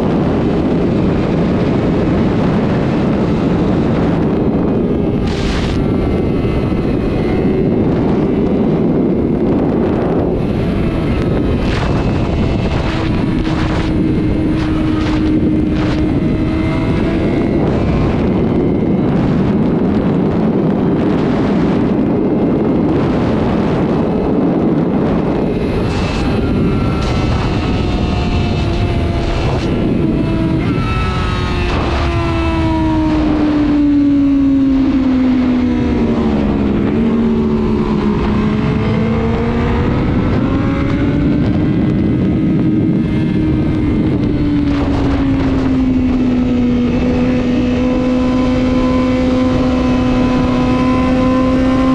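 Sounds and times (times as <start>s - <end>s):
motorcycle engine running at speed: 0.0s - 51.9s
wind noise on microphone: 0.0s - 51.9s.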